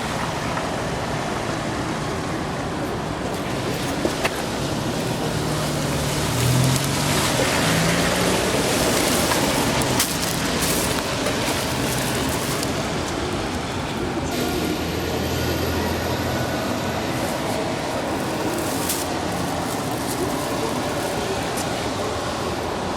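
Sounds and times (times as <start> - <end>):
vehicle engine rumbling: 0.0 - 22.9.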